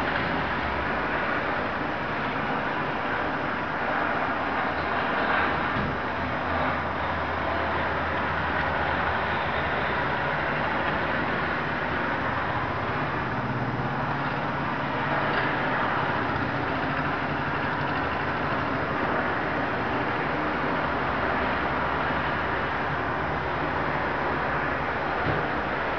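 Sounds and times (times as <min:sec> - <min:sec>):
road traffic passing: 0:00.0 - 0:25.9.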